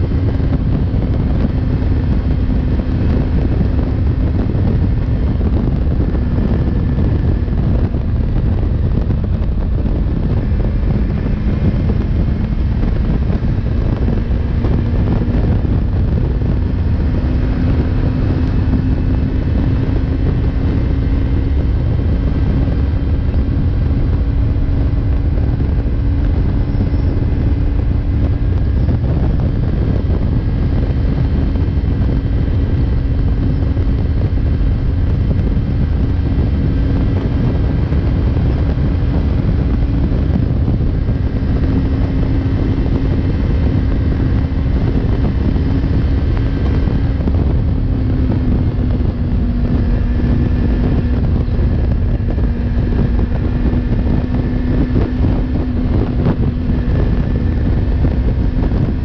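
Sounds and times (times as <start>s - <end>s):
motorcycle engine at high revs: 0.0s - 59.0s
wind buffeting microphone: 0.0s - 59.0s.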